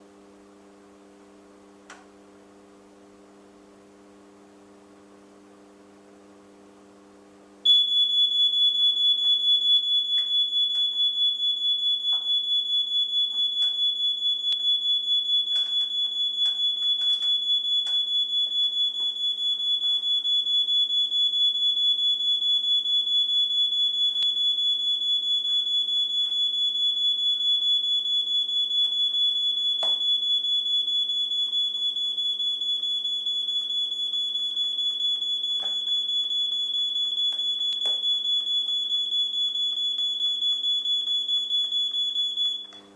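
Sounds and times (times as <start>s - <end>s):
fire alarm tone: 7.6s - 42.9s.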